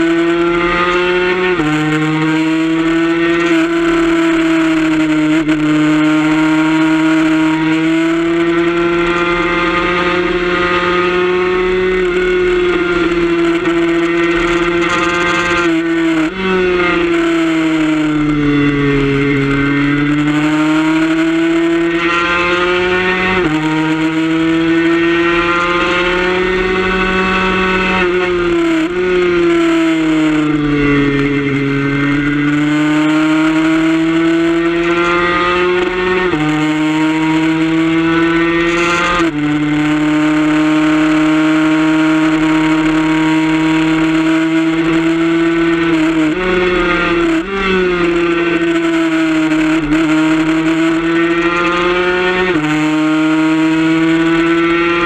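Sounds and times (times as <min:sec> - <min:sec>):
two-stroke motorcycle engine racing: 0:00.0 - 0:55.0.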